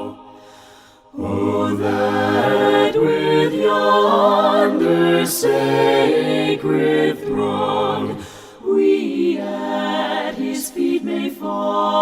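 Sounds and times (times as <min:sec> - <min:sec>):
voices singing hymn a cappella: 0:00.0 - 0:12.0.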